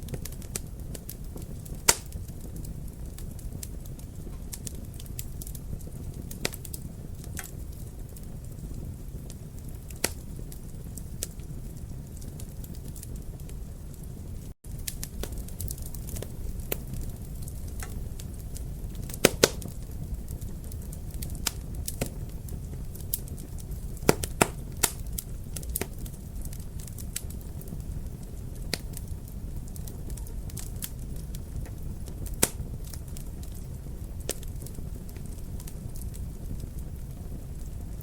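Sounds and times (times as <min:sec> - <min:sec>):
fire crackling in a fireplace: 0:00.0 - 0:38.0.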